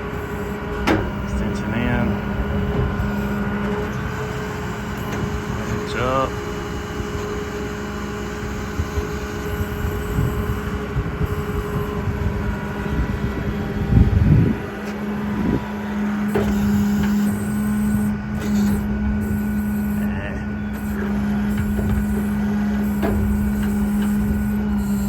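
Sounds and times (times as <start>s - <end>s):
hydraulics humming: 0.0s - 25.0s
truck engine running: 0.0s - 25.0s.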